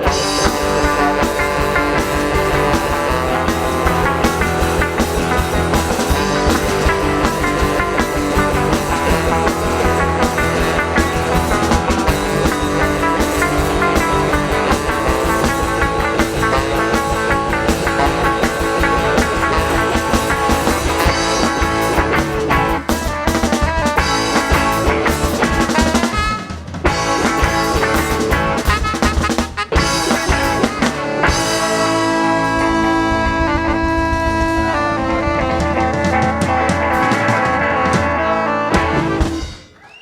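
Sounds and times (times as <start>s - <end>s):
electric guitar: 0.0s - 39.8s
drum kit beat: 0.0s - 40.0s.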